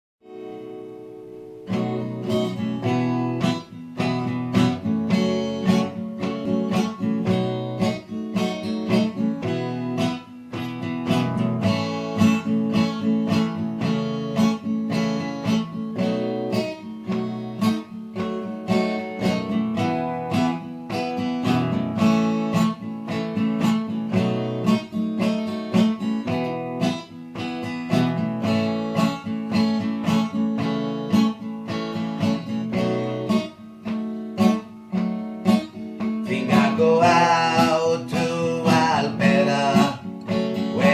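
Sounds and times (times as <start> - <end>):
acoustic guitar strumming: 0.2 - 40.9.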